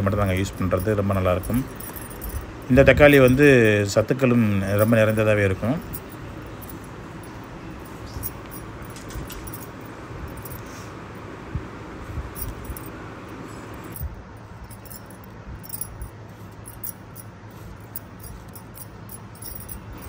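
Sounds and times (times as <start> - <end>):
glass bangles clinking: 0.0 - 10.7, 12.4 - 13.0, 13.8 - 20.0.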